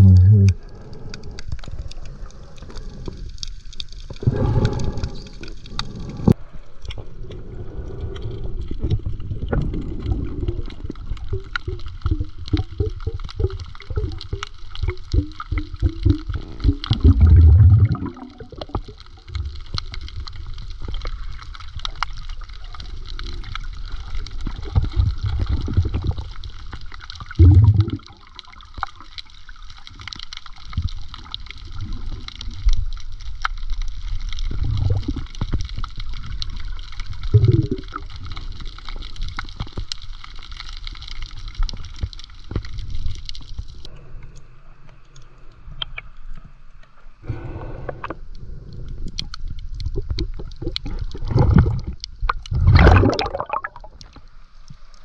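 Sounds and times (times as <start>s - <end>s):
low rushes of water: 0.0s - 39.6s, 47.2s - 55.0s
water sloshing and gurgling: 0.0s - 44.0s, 45.6s - 55.0s.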